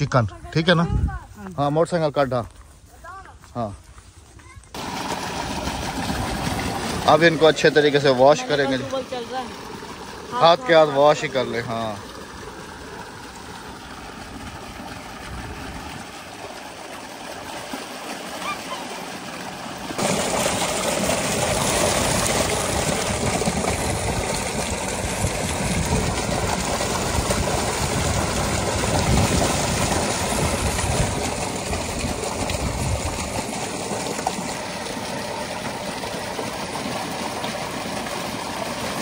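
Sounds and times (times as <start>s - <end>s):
water gushing into concrete tank: 4.7s - 39.0s
vegetables rinsed by hand: 4.8s - 39.0s.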